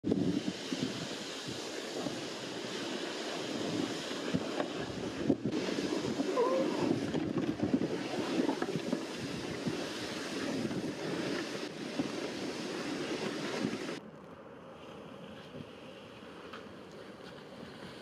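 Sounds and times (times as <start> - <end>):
sled scraping over snow: 0.1 - 18.0.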